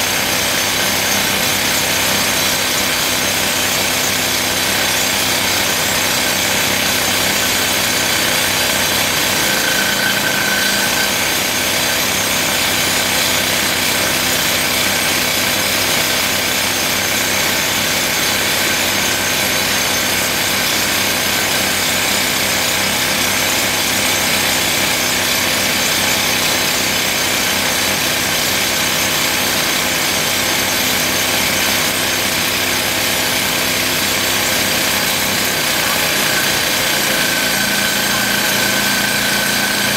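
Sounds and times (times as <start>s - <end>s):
pneumatic rock drill hammering: 0.0s - 39.9s.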